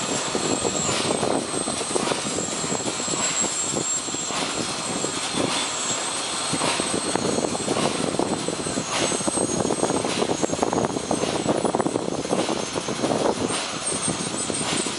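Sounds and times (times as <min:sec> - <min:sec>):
breading machine clatter: 0:00.0 - 0:14.9.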